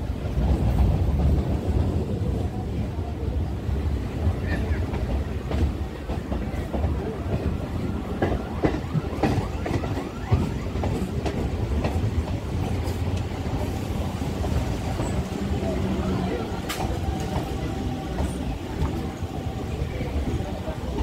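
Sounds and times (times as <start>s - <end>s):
clickety-clack of train wheels: 0.0s - 3.0s, 3.8s - 21.0s
electric train rumbling: 0.0s - 21.0s.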